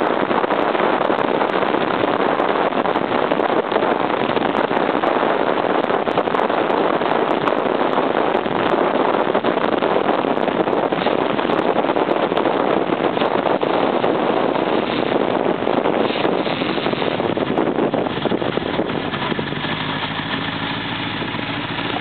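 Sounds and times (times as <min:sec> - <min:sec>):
motorcycle engine cruising: 0:00.0 - 0:22.0
wind rush on microphone: 0:00.0 - 0:22.0.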